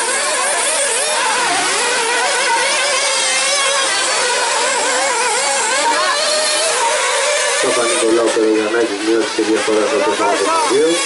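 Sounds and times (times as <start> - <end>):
rc car engines whining: 0.0 - 11.0.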